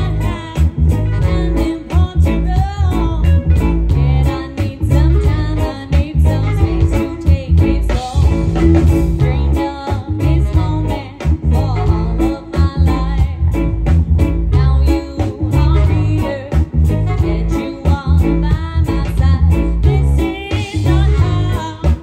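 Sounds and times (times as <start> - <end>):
person singing: 0.0 - 13.8, 14.5 - 22.0
live band music: 0.0 - 22.0.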